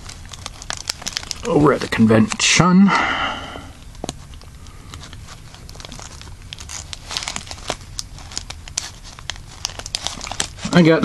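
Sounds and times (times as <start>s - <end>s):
plastic wrapping crinkling: 0.0s - 2.5s, 3.8s - 11.0s.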